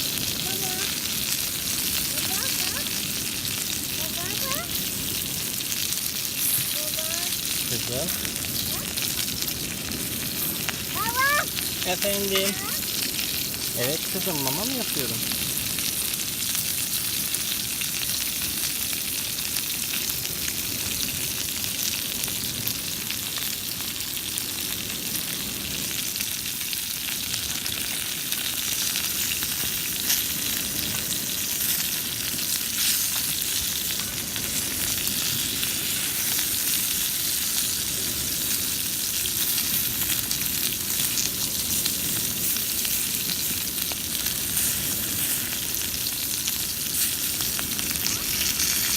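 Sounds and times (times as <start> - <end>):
chicken frying in oil: 0.0 - 48.9.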